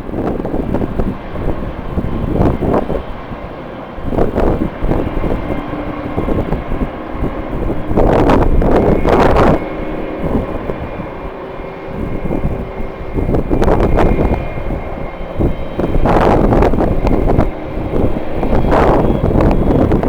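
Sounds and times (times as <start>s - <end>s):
jet engines whining: 0.0s - 20.0s
wind buffeting microphone: 0.0s - 20.0s.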